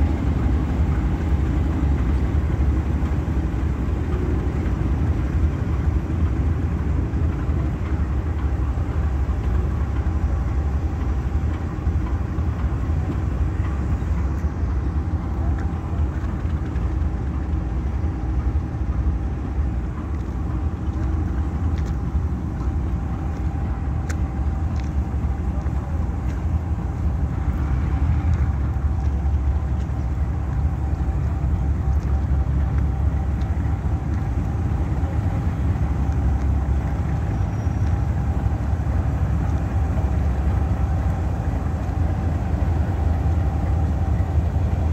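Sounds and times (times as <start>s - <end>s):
diesel locomotive engine rumble: 0.0s - 44.9s
steady whine: 0.0s - 44.9s.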